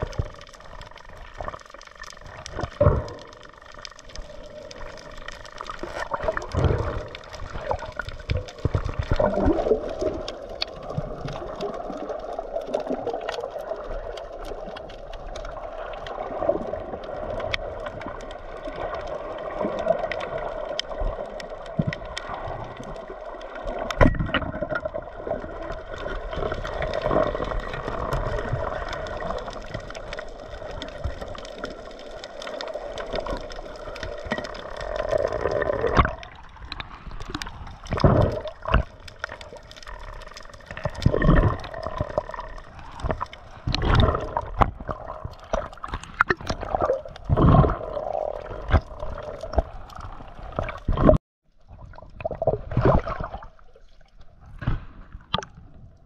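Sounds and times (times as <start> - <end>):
seawater gurgling and sloshing: 0.0 - 56.0
water splashes: 0.0 - 56.0.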